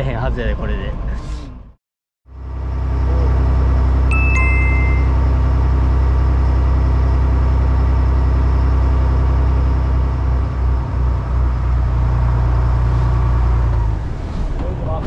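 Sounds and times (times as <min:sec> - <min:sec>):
boat engine droning: 0:02.3 - 0:15.0.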